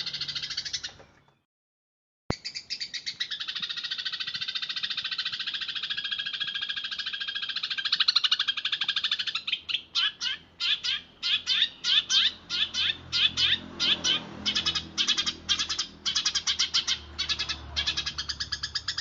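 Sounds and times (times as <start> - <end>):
sparrow chirping: 0.0 - 1.3, 2.3 - 19.0.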